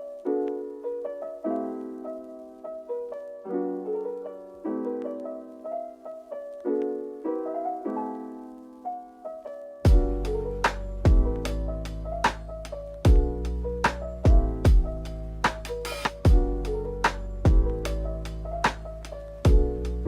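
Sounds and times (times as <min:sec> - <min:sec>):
gentle solo piano chords: 0:00.0 - 0:20.0.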